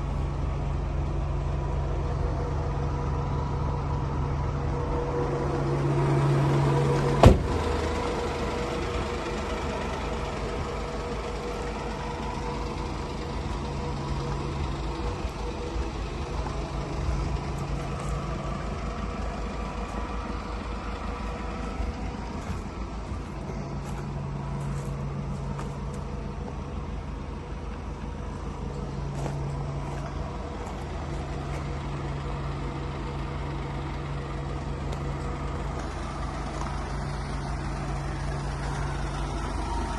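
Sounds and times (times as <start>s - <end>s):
van engine idling: 0.0s - 39.9s.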